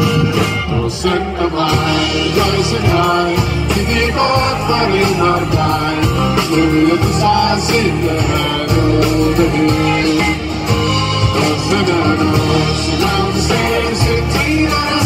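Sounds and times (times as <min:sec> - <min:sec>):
electric guitar: 0:00.0 - 0:15.0
steady drum beat: 0:00.0 - 0:15.0
strummed acoustic guitar: 0:00.0 - 0:15.0
man singing: 0:00.6 - 0:15.0.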